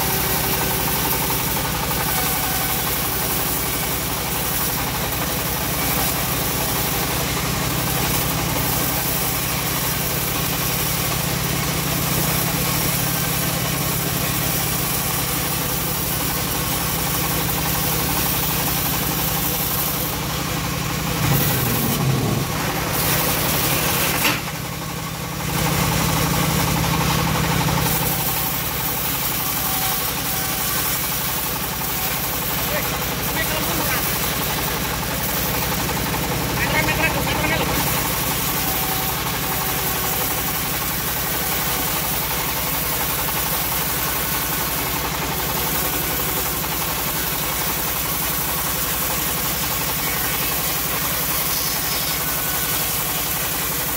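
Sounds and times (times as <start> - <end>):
saw blade cutting wood: 0.0 - 11.2, 12.1 - 20.2, 21.1 - 24.6, 27.8 - 53.9
engine droning: 0.0 - 53.9.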